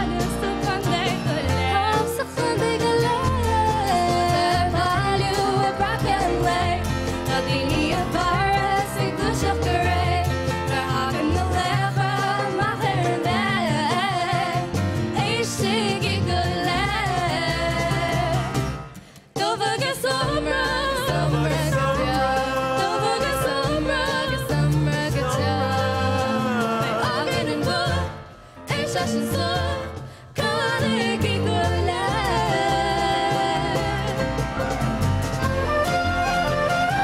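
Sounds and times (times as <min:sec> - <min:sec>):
women singing: 0:00.0 - 0:18.8, 0:19.4 - 0:34.4
folk band playing: 0:00.0 - 0:37.0.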